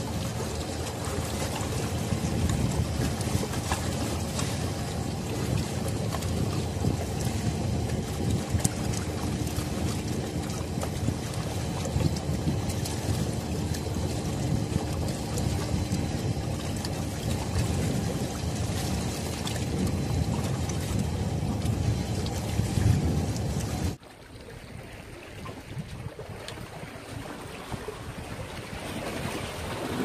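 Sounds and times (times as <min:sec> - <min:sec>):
wind buffeting microphone: 0:00.0 - 0:24.0, 0:25.2 - 0:30.0
water lapping at shore: 0:00.0 - 0:30.0.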